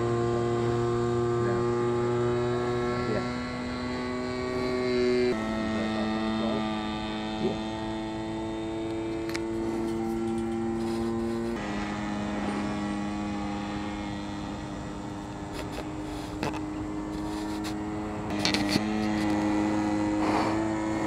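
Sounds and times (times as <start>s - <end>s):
model airplane motor droning: 0.0s - 21.0s.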